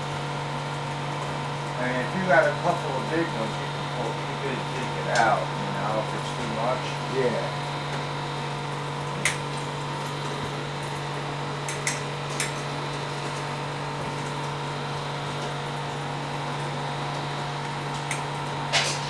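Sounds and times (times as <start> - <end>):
appliance hum: 0.0 - 19.0.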